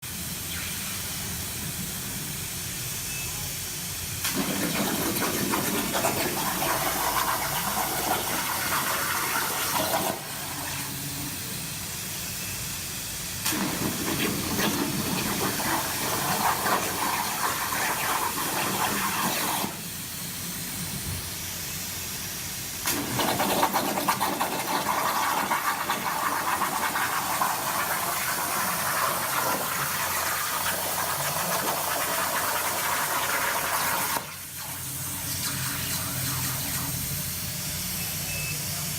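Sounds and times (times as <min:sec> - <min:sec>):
plasma cutter hissing: 0:00.1 - 0:38.9.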